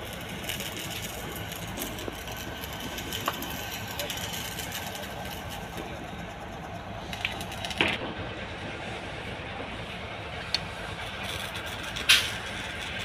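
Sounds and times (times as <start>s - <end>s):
heavy machinery engine idling: 0.0s - 13.0s.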